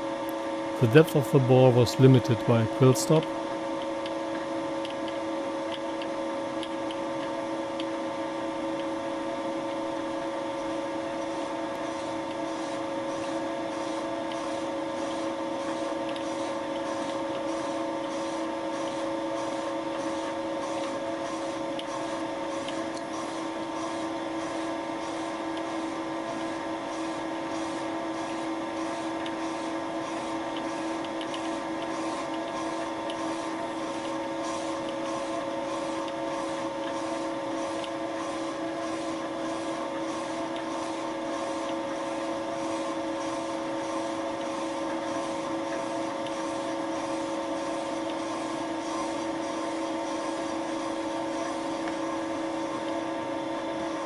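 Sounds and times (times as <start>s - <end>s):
milling machine humming: 0.0s - 54.0s.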